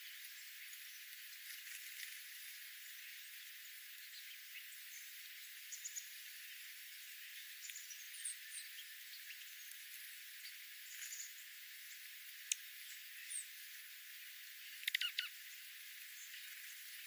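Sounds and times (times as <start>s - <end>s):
faint high hiss: 0.0s - 17.0s
small birds chirping: 0.0s - 17.0s.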